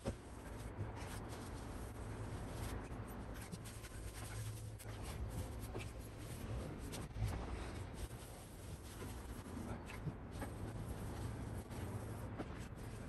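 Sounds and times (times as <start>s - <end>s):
sponge scrubbing window glass: 0.0s - 13.0s.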